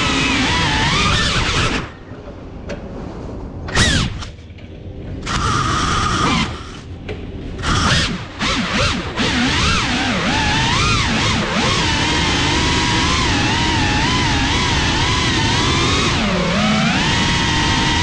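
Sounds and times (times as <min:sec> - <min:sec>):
drone motors whining: 0:00.0 - 0:02.2, 0:03.7 - 0:04.5, 0:05.1 - 0:18.0.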